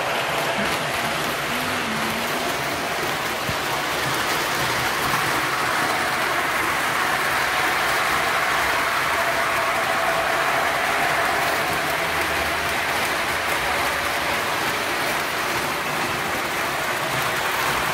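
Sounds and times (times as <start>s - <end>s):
model train wheels clattering on rail: 0.0s - 9.4s, 10.6s - 17.9s.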